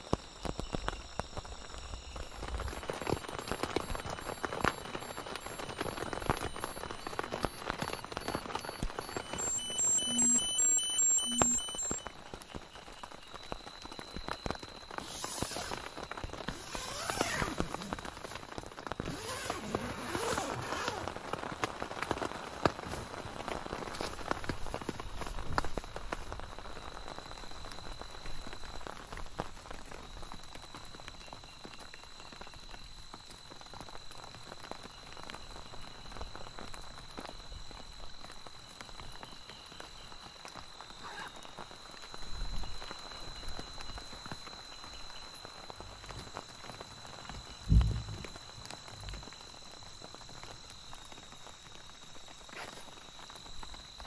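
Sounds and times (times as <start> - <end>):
rain pattering on tent: 0.0 - 54.0.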